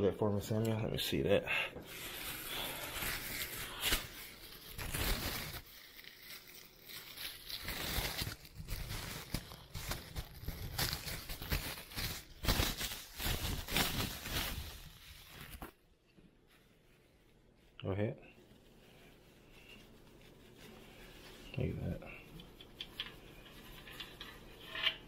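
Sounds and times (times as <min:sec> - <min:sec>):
rustling and crinkling: 0:01.8 - 0:25.0.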